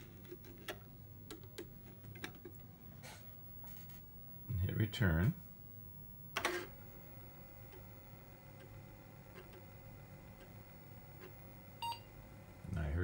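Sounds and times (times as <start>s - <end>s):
floppy disk drive hum: 0.0s - 13.0s.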